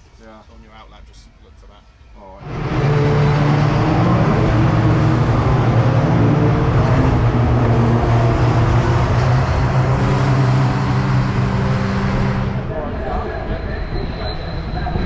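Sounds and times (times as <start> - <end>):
truck engine running: 2.4 - 15.0.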